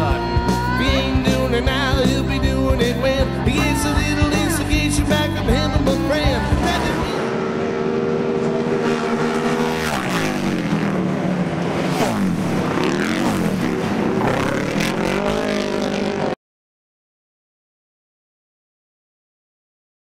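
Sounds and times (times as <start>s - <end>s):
racing motorcycle engines: 0.0s - 16.4s.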